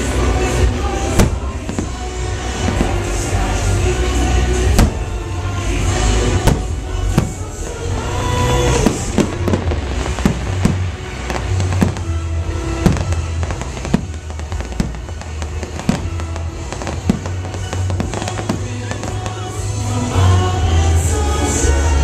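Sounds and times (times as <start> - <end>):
fireworks shells bursting: 0.0 - 19.7
loud show music over speakers: 0.0 - 22.0.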